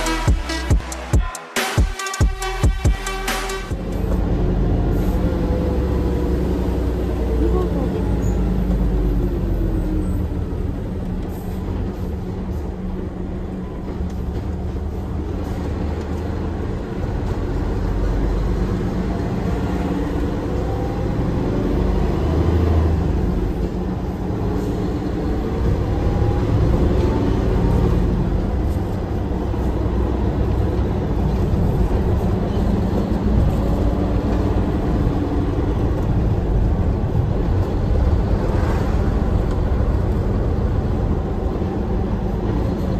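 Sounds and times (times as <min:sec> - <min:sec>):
diesel truck engine running: 0:00.0 - 0:01.3, 0:02.3 - 0:42.9
road and tyre noise: 0:00.0 - 0:42.9.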